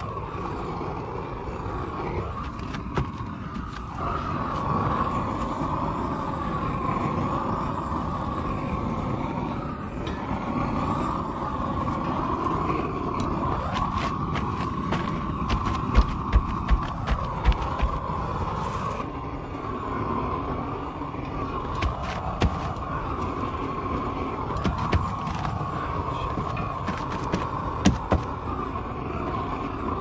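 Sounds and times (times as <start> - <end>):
roofing torch burning: 0.0 - 30.0.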